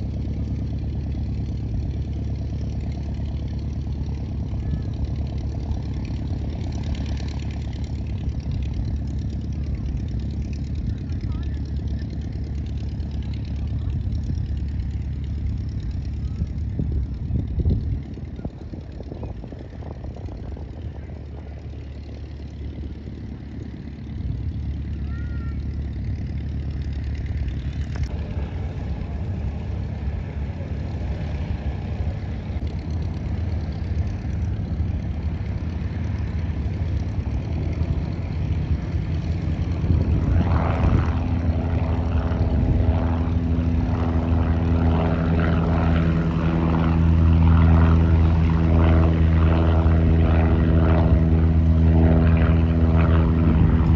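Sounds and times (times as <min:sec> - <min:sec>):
propeller airplane engine drone: 0:00.0 - 0:53.9.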